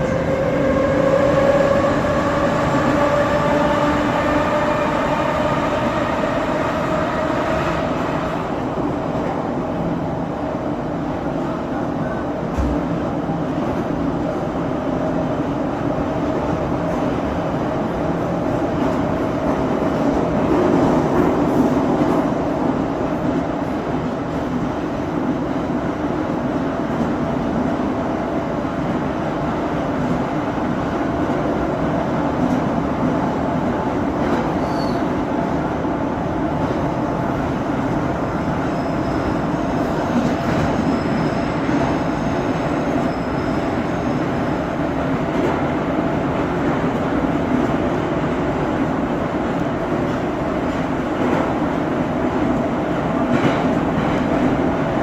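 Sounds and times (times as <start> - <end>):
metro train wheels rumbling: 0.0 - 55.0.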